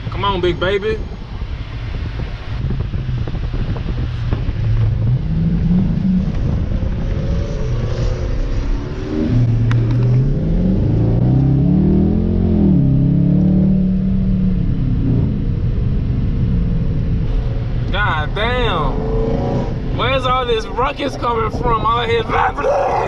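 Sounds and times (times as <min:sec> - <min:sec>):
car engine accelerating: 0:01.0 - 0:23.0.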